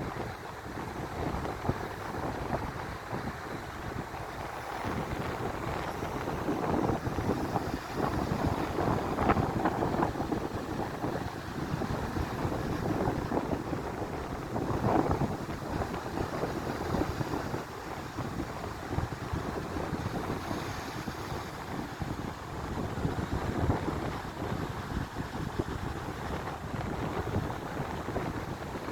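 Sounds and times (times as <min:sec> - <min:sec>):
sea surf: 0:00.0 - 0:28.9
wind buffeting microphone: 0:00.0 - 0:28.9.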